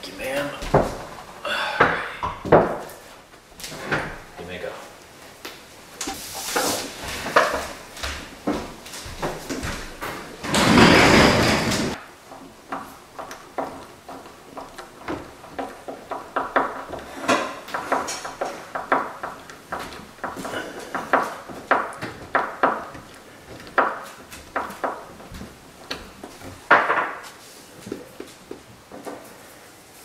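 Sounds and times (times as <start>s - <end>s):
hard objects knocking and clattering: 0.4s - 3.0s, 7.0s - 29.2s.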